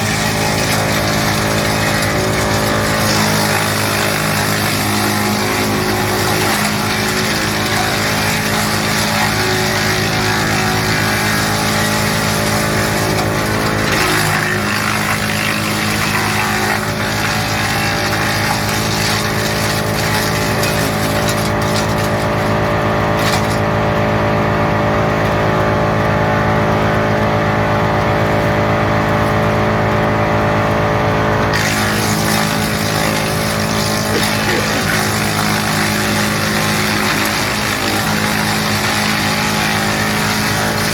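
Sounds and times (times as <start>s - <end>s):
tractor engine hum: 0.0s - 40.9s
woodchipper chipping wood: 0.0s - 40.9s.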